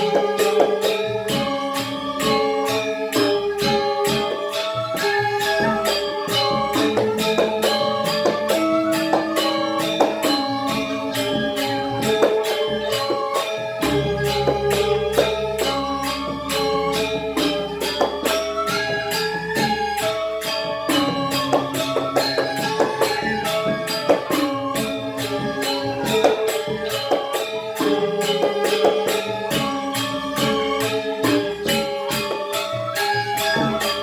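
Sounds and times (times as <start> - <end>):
metallophones ringing tones: 0.0 - 34.0
sharp metallic strikes: 0.0 - 34.0.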